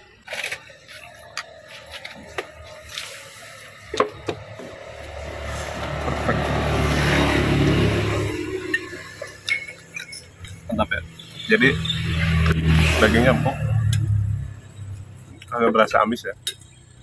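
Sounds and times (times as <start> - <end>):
motor vehicle passing: 1.4 - 15.6.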